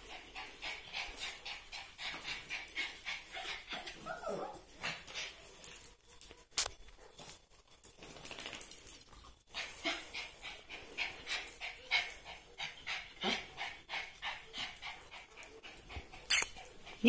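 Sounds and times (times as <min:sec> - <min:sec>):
dog panting: 0:00.0 - 0:08.0, 0:09.2 - 0:17.0.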